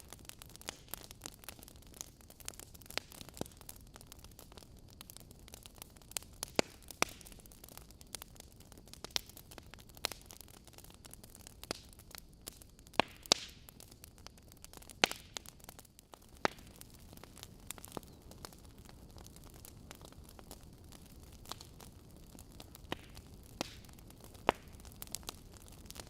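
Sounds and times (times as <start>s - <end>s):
loud fire snaps: 0.0s - 26.0s
soft steady hiss: 0.0s - 26.0s
wood fire crackling: 0.0s - 26.0s.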